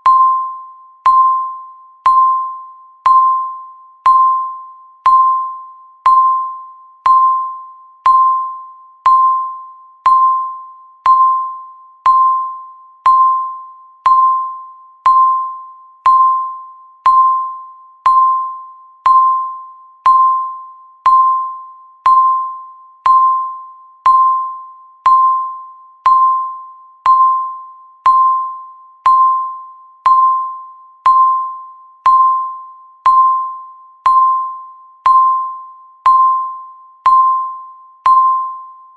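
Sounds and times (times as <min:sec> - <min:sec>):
countdown timer beep: 0:00.0 - 0:38.9.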